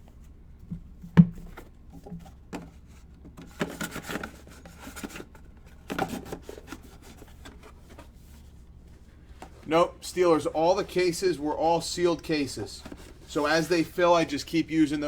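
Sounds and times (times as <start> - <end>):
cardboard rustling and scraping: 0.0 - 14.4.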